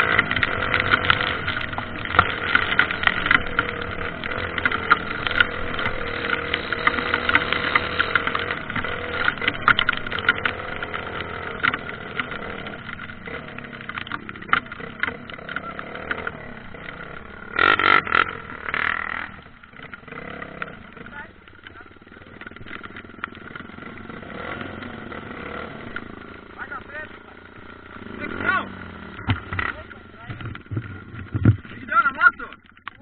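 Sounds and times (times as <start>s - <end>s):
crackling: 0.0s - 33.0s
dirt bike engine running: 0.0s - 33.0s.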